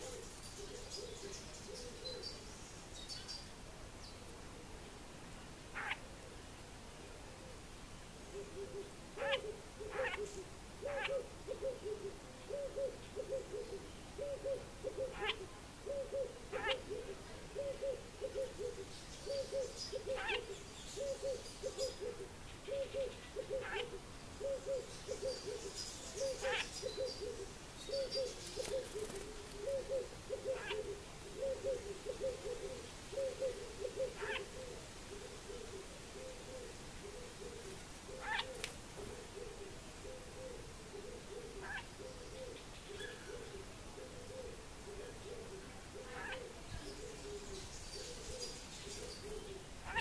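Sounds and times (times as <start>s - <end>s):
bird hooting or cooing: 0.0s - 2.5s, 5.8s - 6.1s, 8.3s - 50.0s.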